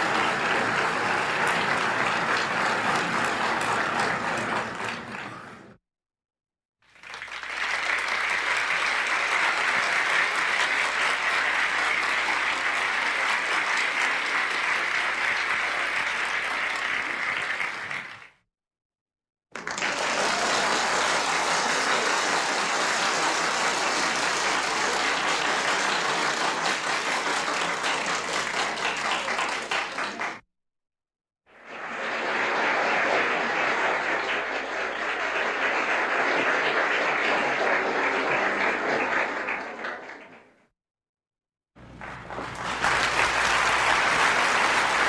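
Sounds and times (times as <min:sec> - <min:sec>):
crowd applauding: 0:00.0 - 0:05.8, 0:06.9 - 0:18.4, 0:19.6 - 0:30.4, 0:31.6 - 0:40.5, 0:41.8 - 0:45.0.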